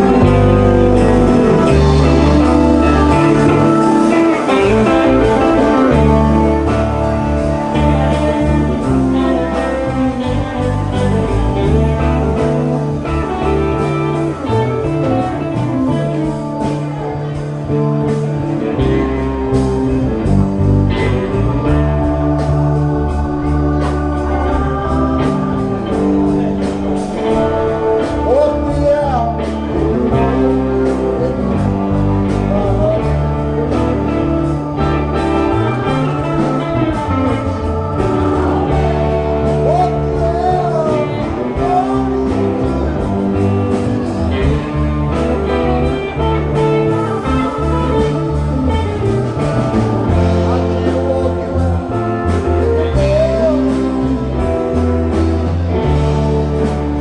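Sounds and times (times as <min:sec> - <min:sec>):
lead vocal singing: 0:00.0 - 0:57.0
rock band playing: 0:00.0 - 0:57.0.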